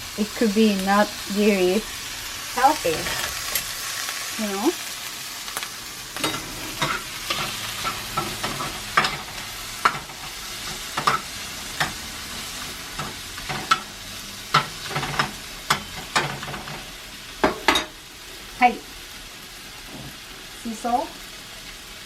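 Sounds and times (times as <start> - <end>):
tomatoes sizzling in oil: 0.0 - 22.0.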